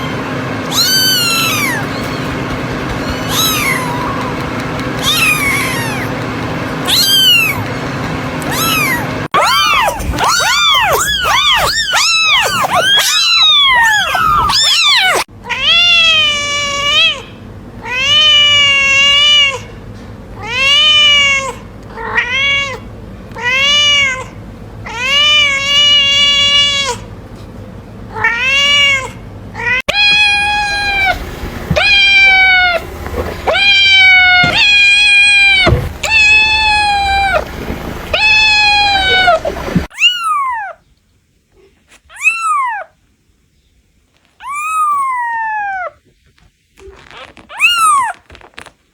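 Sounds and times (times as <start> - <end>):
cat meowing: 0.0 - 7.7, 8.4 - 19.7, 20.4 - 22.8, 23.4 - 27.0, 28.1 - 40.8, 42.1 - 42.9, 44.4 - 46.0, 47.2 - 48.3.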